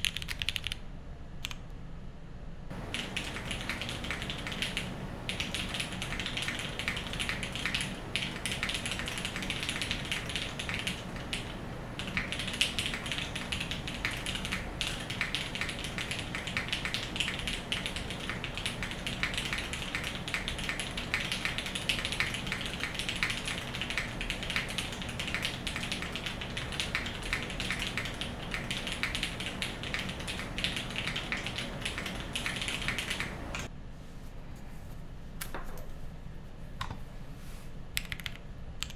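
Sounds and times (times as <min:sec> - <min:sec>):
mechanical keyboard typing: 0:00.0 - 0:00.8, 0:02.7 - 0:33.7, 0:38.0 - 0:38.9.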